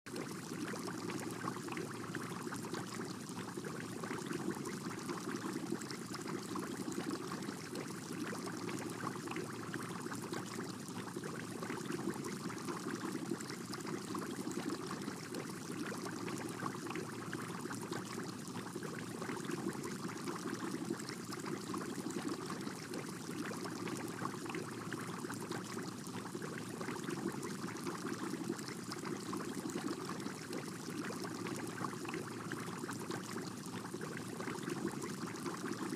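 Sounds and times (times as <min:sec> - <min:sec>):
aquarium water trickling: 0:00.1 - 0:35.9.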